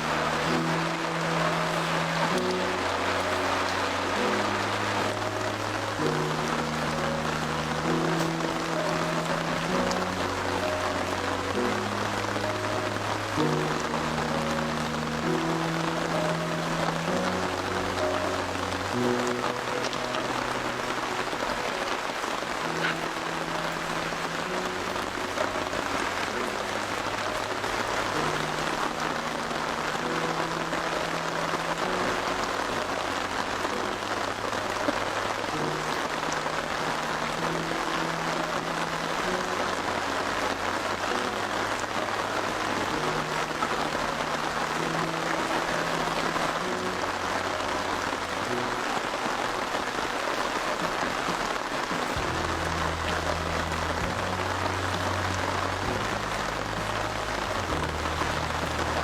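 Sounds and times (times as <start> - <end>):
heavy rain falling: 0.0 - 59.0
soft music with low sustained notes: 0.0 - 59.0.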